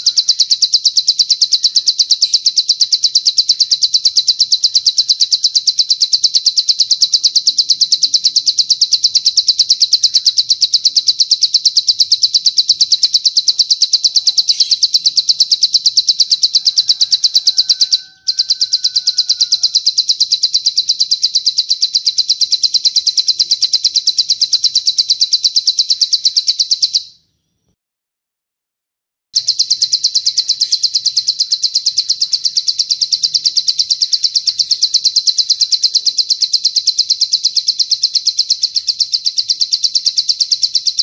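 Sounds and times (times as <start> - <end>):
bird rapid high trill: 0.0 - 27.4, 29.4 - 41.0.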